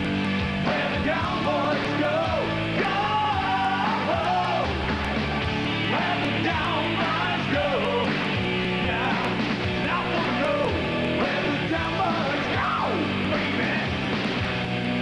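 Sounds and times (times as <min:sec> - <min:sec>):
rock band playing: 0:00.0 - 0:15.0
man singing: 0:00.6 - 0:04.7, 0:05.8 - 0:14.0.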